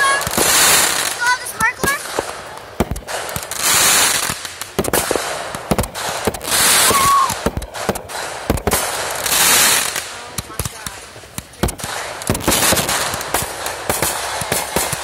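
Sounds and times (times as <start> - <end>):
fireworks bangs: 0.0 - 15.0
fireworks hissing: 0.0 - 15.0.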